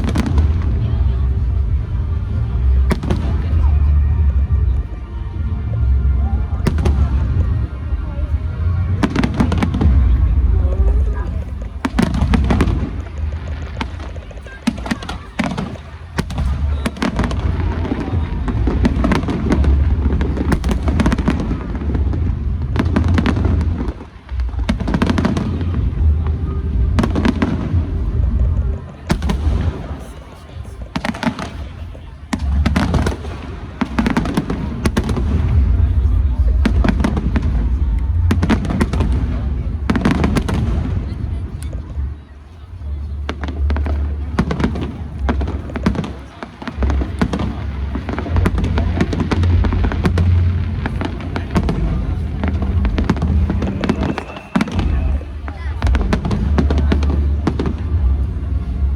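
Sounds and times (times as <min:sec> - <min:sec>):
low rumble of booms: 0:00.0 - 0:14.9, 0:16.2 - 0:30.0, 0:32.3 - 0:42.2, 0:46.7 - 0:58.9
fireworks bangs and crackling: 0:00.0 - 0:58.9.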